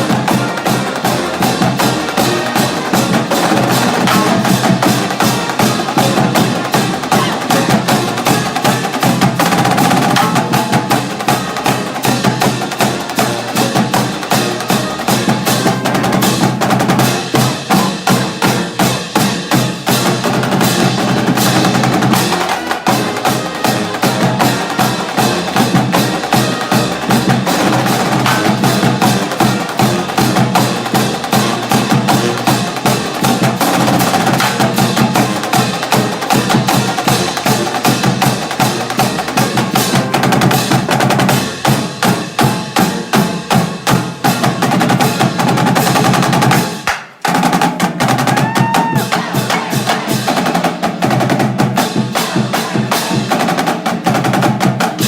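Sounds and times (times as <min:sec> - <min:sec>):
drumline beating rhythm: 0:00.0 - 0:55.0
marching band playing: 0:00.0 - 0:55.0.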